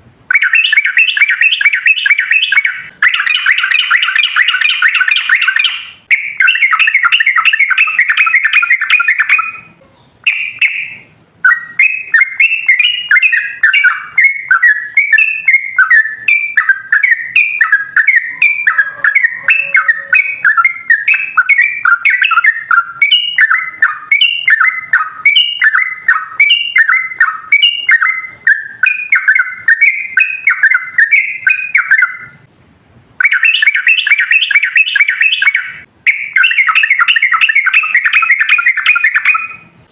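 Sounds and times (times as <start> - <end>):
bulbul singing: 0.2 - 32.5, 33.2 - 39.8.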